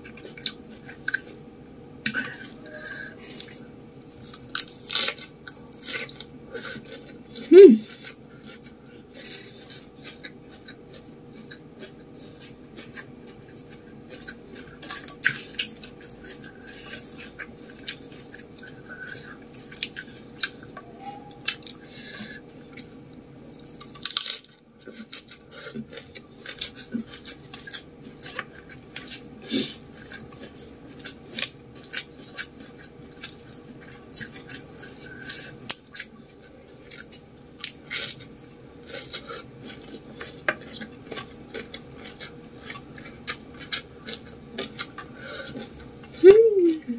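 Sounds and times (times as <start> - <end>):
person chewing food: 0.0 - 46.6.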